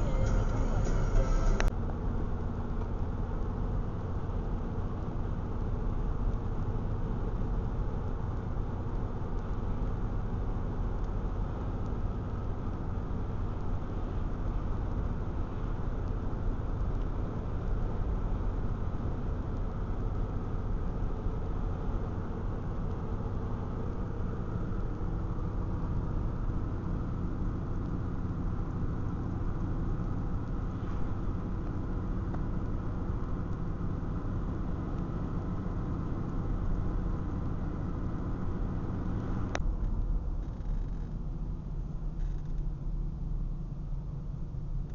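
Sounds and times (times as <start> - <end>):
car road and engine noise: 0.0 - 44.9.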